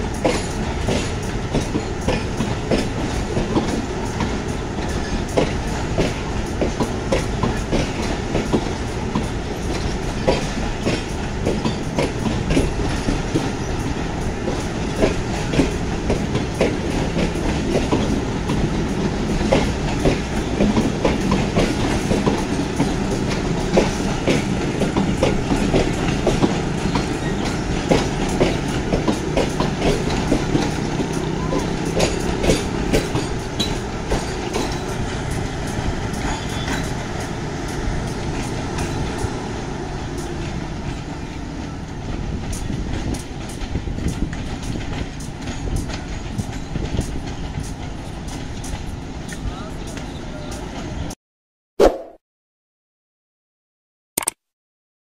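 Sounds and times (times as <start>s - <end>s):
train rumble: 0.0s - 51.2s
wheels clacking over rail joints: 0.2s - 50.2s.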